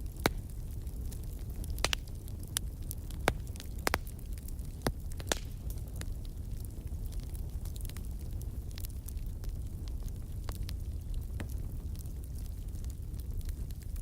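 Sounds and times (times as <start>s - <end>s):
burning wood popping: 0.0s - 14.0s
low fire rumble: 0.0s - 14.0s.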